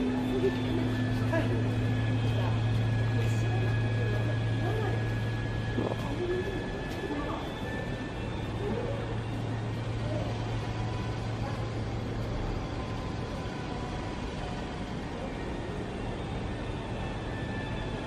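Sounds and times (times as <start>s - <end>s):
low hum: 0.0s - 18.0s
road traffic noise: 0.0s - 18.0s.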